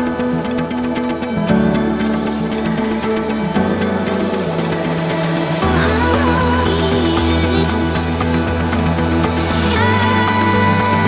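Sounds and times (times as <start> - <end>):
music with sustained tones and bass: 0.0 - 11.0.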